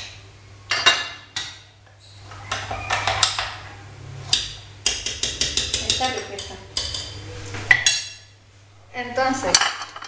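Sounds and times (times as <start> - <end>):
utensils clinking against dishes: 0.0 - 8.4, 9.5 - 10.0.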